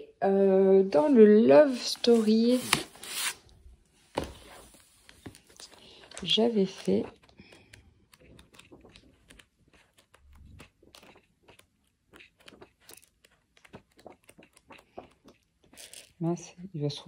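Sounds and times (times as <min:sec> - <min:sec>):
book pages flipping: 0:01.6 - 0:16.2.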